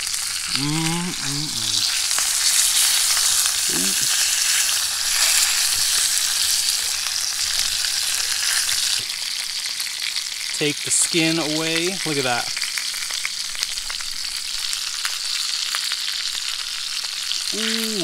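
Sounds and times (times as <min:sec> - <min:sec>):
fish sizzling in pan: 0:00.0 - 0:18.0.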